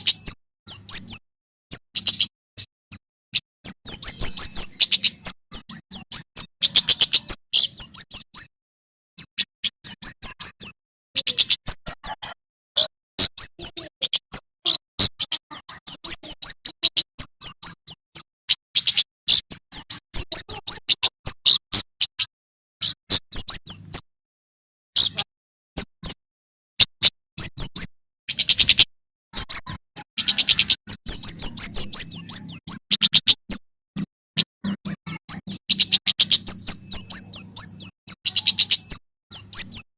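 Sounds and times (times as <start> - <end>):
bird singing sharp chirps: 0.0 - 8.5, 9.2 - 24.1, 26.8 - 39.9.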